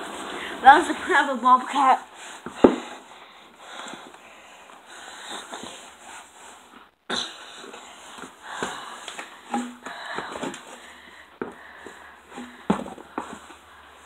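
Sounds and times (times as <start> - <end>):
person breathing and sniffing: 2.1 - 14.0.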